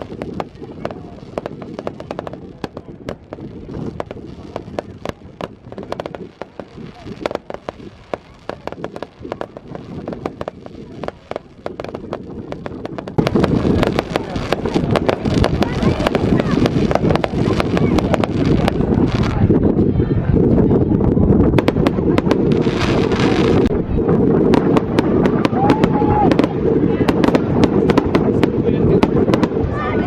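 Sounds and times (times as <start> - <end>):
fireworks cracking and banging: 0.0 - 30.0
low rumbling noise: 0.0 - 30.0.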